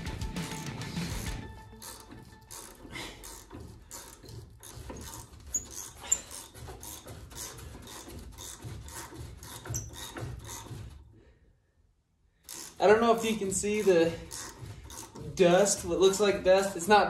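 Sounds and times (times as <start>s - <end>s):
rusted bolt squeaking and grating: 0.3s - 11.0s, 12.5s - 17.0s.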